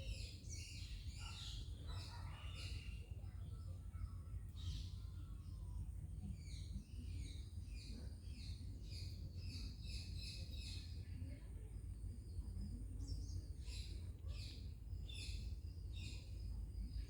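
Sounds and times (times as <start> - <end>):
myna birds chirping: 0.0 - 17.0.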